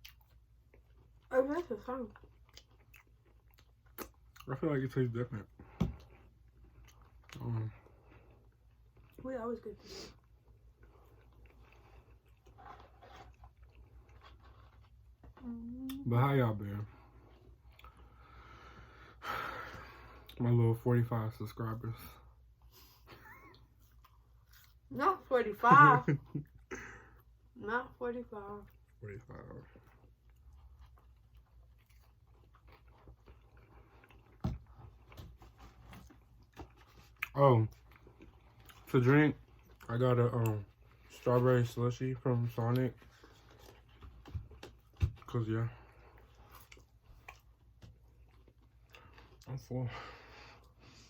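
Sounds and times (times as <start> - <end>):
chewing and crunching food: 0.0 - 51.0.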